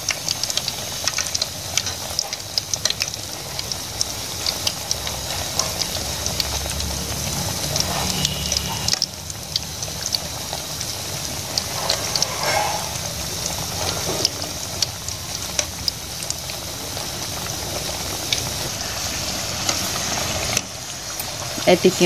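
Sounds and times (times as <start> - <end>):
bubbling sizzle of deep-frying: 0.0 - 22.0.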